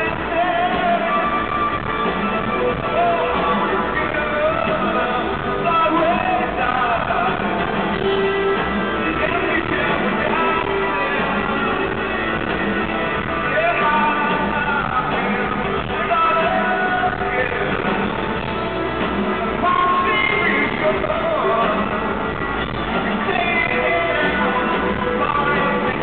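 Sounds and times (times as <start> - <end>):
man singing lead vocals: 0.0 - 26.0
rock band playing live: 0.0 - 26.0.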